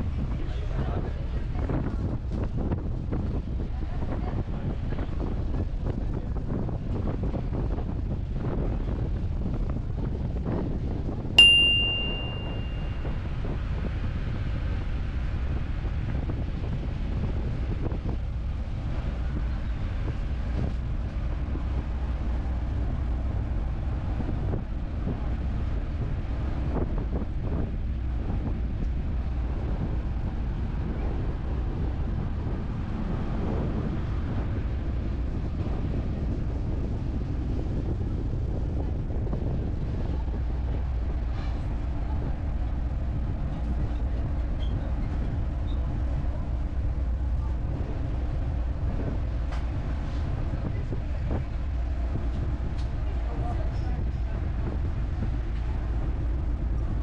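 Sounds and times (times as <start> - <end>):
ferry engine drone: 0.0 - 57.0
wind buffeting microphone: 0.0 - 57.0.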